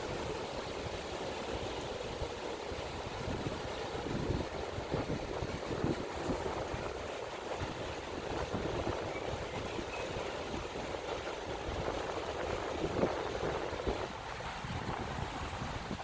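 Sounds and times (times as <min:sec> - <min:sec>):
wind buffeting microphone: 0:02.1 - 0:16.0.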